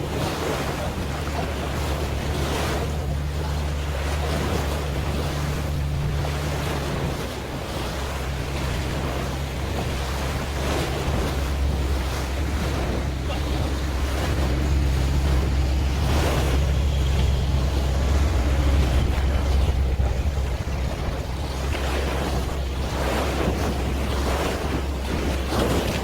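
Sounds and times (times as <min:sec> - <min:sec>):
boat engine humming: 0:00.0 - 0:26.0
sea water washing: 0:00.0 - 0:26.0
wind buffeting microphone: 0:00.0 - 0:26.0.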